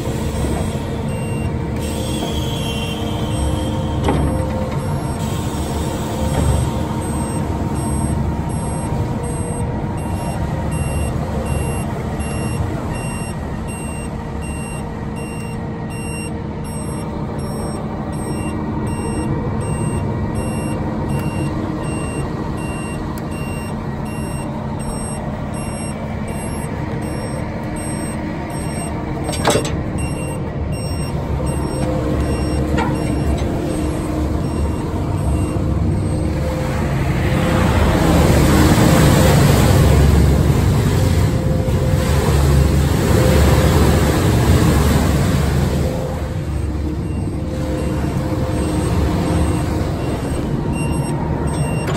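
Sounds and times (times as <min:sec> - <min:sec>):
diesel truck engine running: 0:00.0 - 0:51.9
backup alarm beeping: 0:00.4 - 0:37.0, 0:45.8 - 0:51.9.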